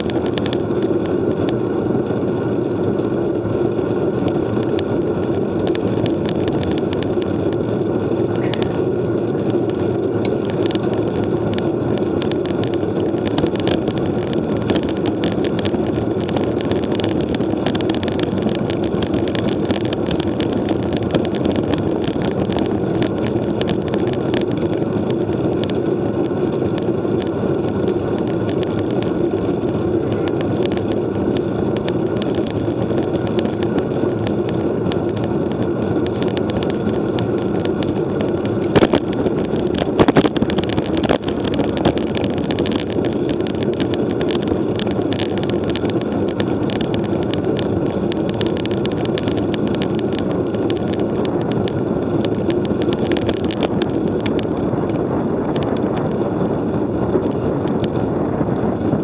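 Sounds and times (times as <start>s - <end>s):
small irregular clicks: 0.0s - 2.2s, 2.8s - 59.0s
wind on microphone: 0.0s - 59.0s.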